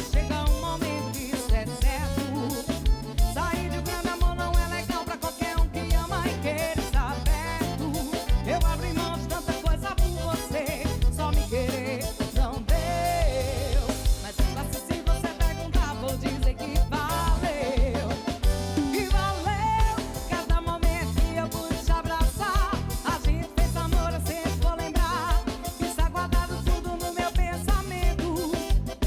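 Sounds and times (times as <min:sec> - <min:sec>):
bass: 0:00.0 - 0:29.0
drum beat: 0:00.0 - 0:29.0.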